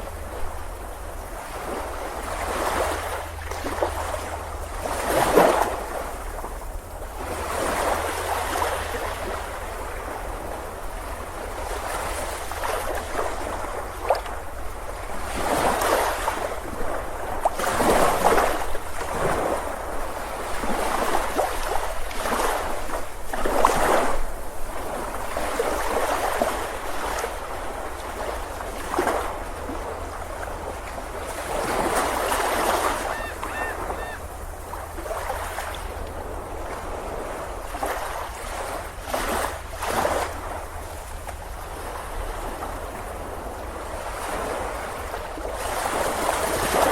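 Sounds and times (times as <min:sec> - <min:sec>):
waves breaking on beach: 0:00.0 - 0:46.9.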